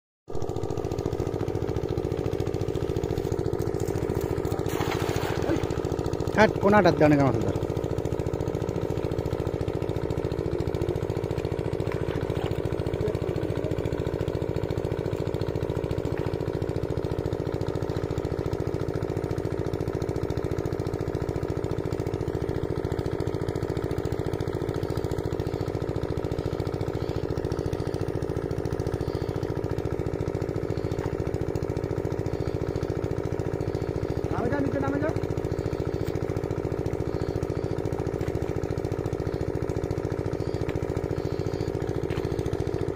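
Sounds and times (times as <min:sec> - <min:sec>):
small engine droning: 0:00.3 - 0:42.9.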